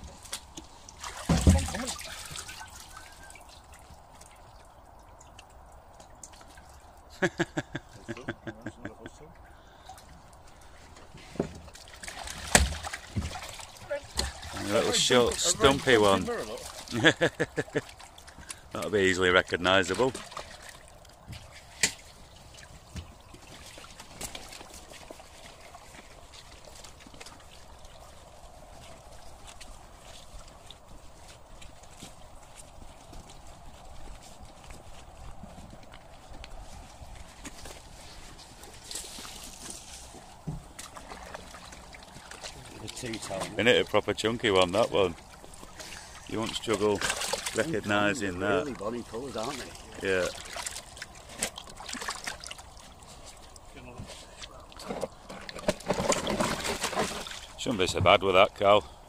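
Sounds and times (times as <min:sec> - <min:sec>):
water dripping and trickling: 0:00.0 - 0:07.7, 0:08.6 - 0:59.0.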